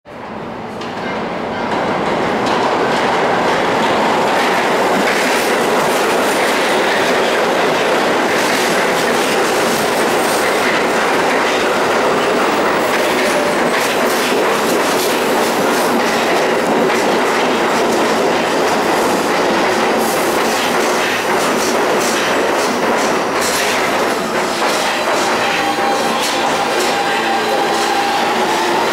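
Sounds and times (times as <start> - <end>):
train wheels rumbling on rails: 0.1 - 28.9
rail joints clacking: 0.6 - 28.9.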